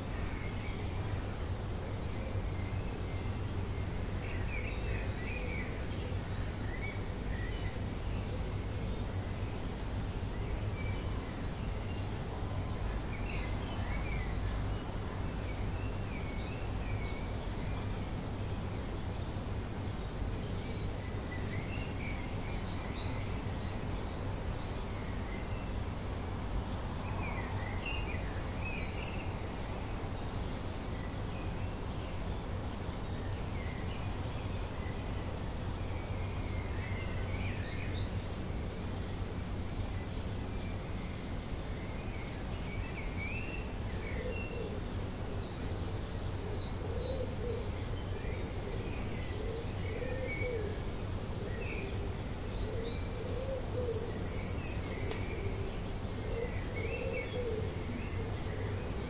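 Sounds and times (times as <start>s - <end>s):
birds singing and calling: 0.0s - 59.0s.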